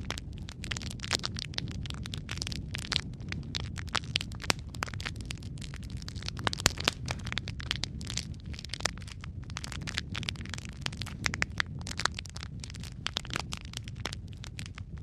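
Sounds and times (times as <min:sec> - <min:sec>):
low rumble of flames: 0:00.0 - 0:15.0
wood fire crackling pops: 0:00.0 - 0:15.0.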